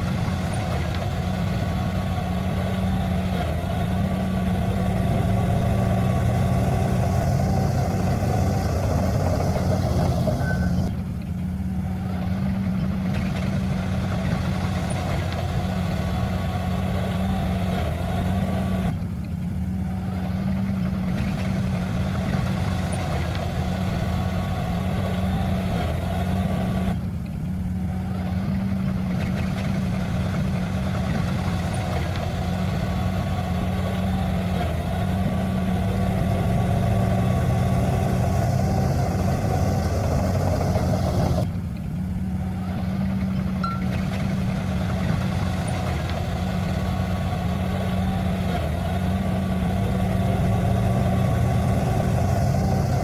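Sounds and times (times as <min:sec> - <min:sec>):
heavy diesel engine droning: 0:00.0 - 0:53.0.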